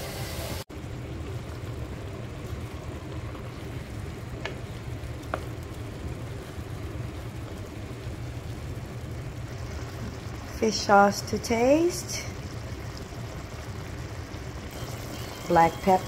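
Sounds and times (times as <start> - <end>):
food sauteing in a pot: 0.0 - 16.0.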